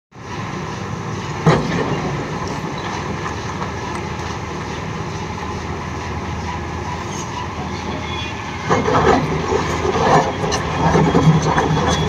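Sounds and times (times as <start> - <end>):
excavator diesel engine running: 0.2 - 12.0.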